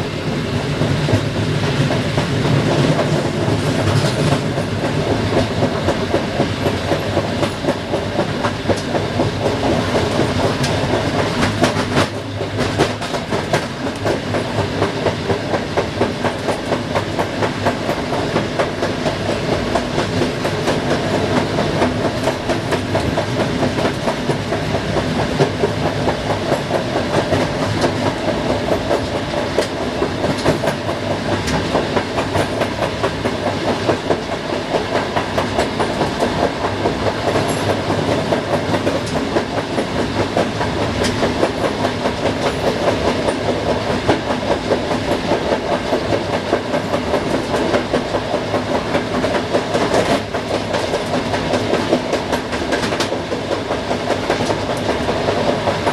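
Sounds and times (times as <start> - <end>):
train wheels clattering on track: 0.0 - 55.9.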